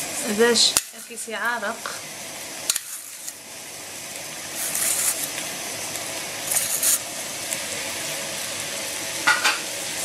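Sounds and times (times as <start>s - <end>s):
chicken and onions sizzling: 0.0s - 10.0s.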